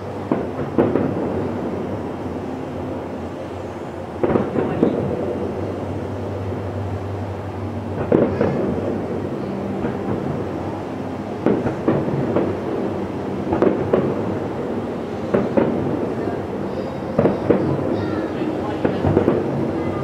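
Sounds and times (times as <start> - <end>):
distant fireworks booming: 0.0 - 6.9, 7.9 - 20.0.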